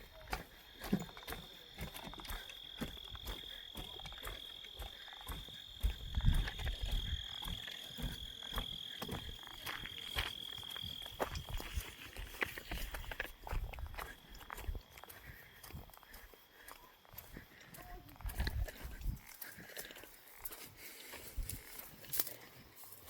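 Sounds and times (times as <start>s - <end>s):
high-pitched insect trill: 0.0s - 15.2s, 18.2s - 23.0s.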